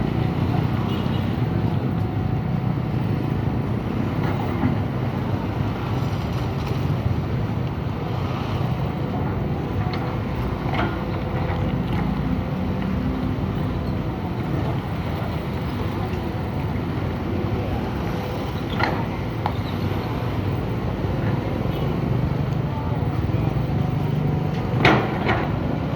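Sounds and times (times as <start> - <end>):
diesel engine rumbling: 0.0 - 25.9.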